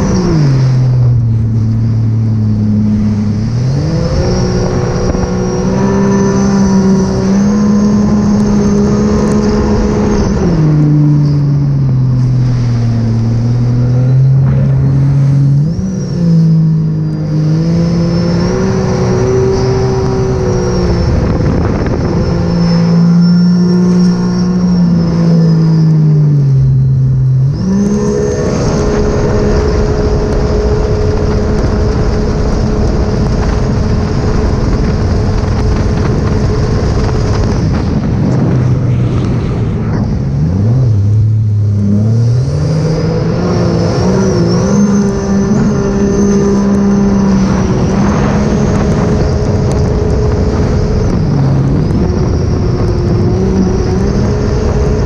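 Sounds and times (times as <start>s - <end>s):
personal watercraft engine running: 0.0s - 55.0s.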